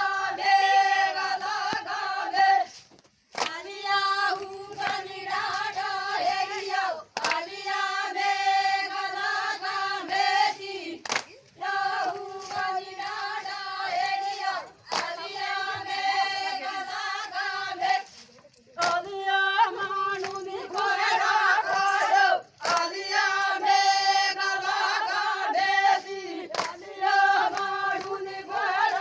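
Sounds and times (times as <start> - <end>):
people singing unaccompanied: 0.0 - 29.0.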